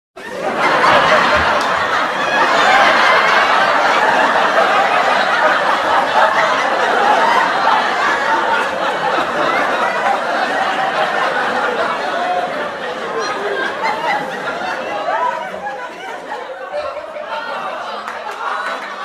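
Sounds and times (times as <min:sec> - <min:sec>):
studio audience laughing: 0:00.2 - 0:19.0.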